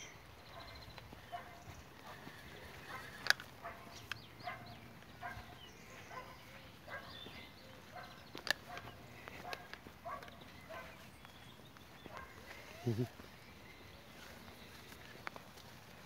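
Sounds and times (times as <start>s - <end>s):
footsteps on wet grass: 0.0s - 16.0s.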